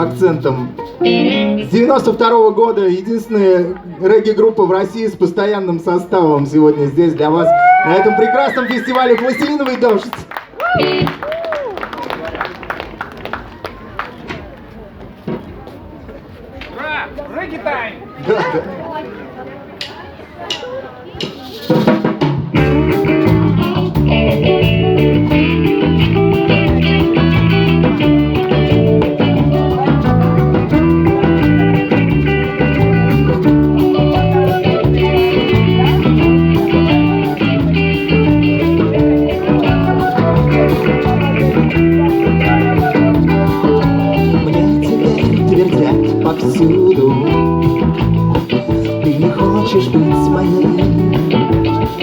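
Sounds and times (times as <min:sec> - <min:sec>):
guitar: 0:00.0 - 0:04.0, 0:06.4 - 0:13.5, 0:20.6 - 0:52.0
live reggae band playing: 0:00.0 - 0:04.0, 0:07.1 - 0:13.0, 0:19.8 - 0:52.0.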